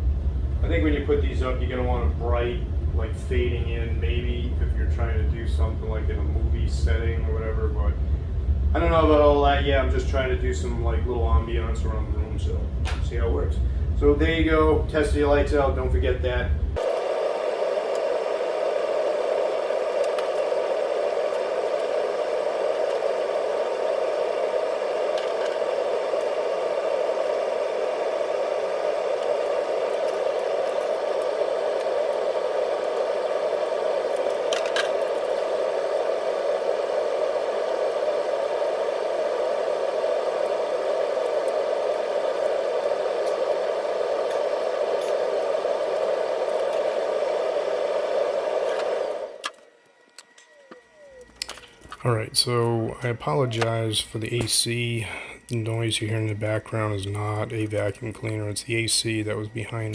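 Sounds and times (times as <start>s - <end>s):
air conditioner rushing noise: 0.0s - 49.5s.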